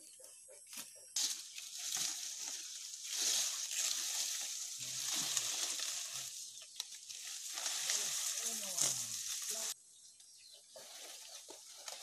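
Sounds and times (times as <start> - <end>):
palm fronds rustling: 0.7 - 9.8, 10.7 - 12.0.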